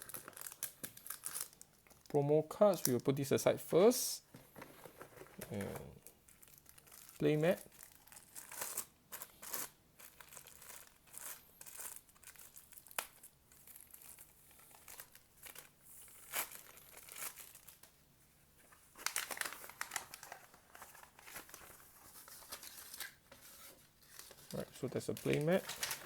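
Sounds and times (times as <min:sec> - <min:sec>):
packaging crinkling and rustling: 0:00.0 - 0:03.1, 0:04.4 - 0:18.0, 0:18.6 - 0:26.0.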